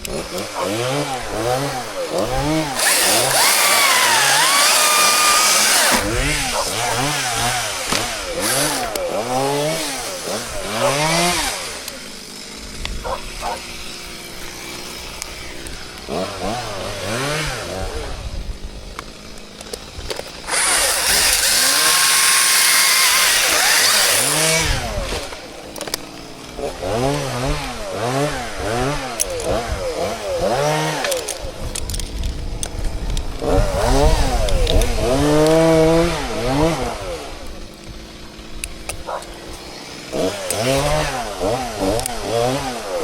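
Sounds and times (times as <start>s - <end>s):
chainsaw revving: 0.0s - 43.0s.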